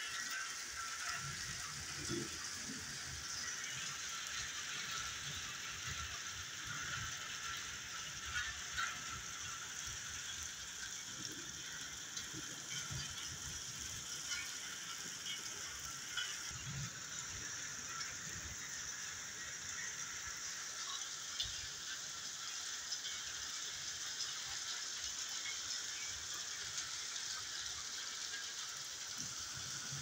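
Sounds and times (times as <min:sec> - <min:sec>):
heavy rain falling: 0:00.0 - 0:21.7, 0:22.3 - 0:30.0.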